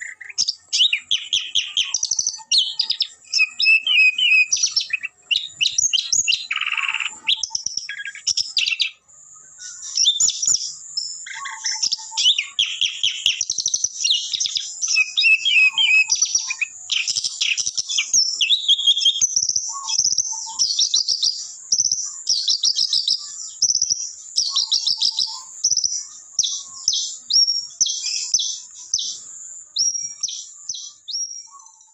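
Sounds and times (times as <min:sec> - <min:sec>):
shrike singing: 0:00.0 - 0:31.9.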